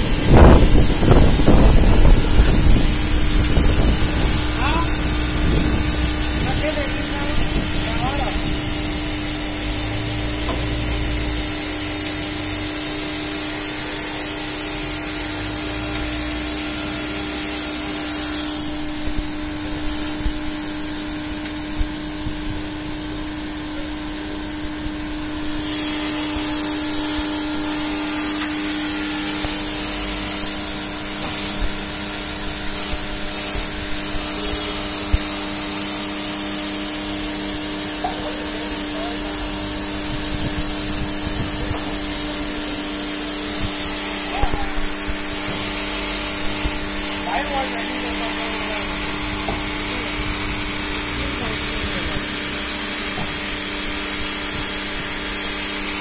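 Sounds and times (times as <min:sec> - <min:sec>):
machine hum: 0:00.0 - 0:56.0
water jet spraying on roof: 0:00.0 - 0:56.0.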